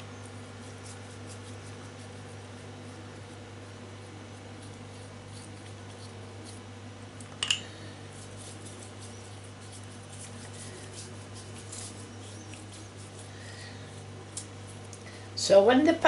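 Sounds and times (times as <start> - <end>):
pastry brush scratching: 0.0 - 7.2, 7.8 - 15.0
steady low hum: 0.0 - 16.0.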